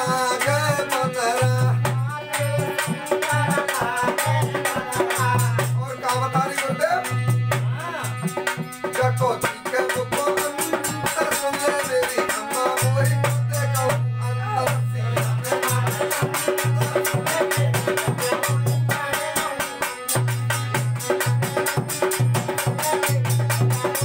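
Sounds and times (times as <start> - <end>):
dholak drum rhythm: 0.0 - 24.0
harmonium melody and drone: 0.0 - 24.0.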